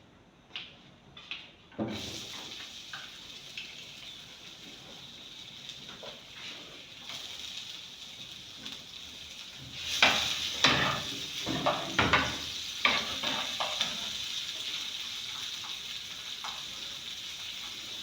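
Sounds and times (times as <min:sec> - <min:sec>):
onions sizzling in hot oil: 0:01.9 - 0:18.0.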